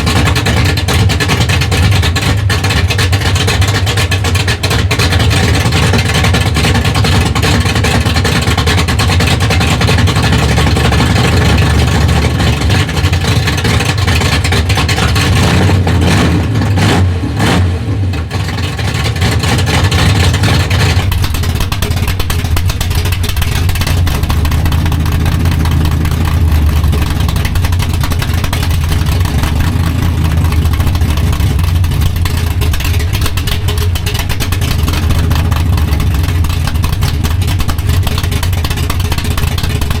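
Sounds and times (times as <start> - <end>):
loud engine running: 0.0 - 40.0.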